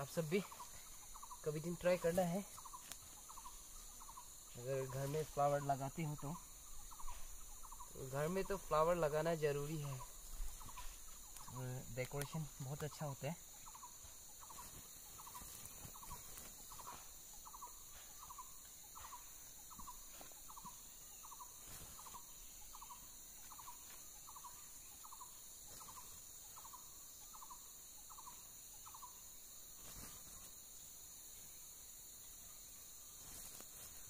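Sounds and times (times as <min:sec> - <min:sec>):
high insect-like hiss: 0:00.0 - 0:34.0.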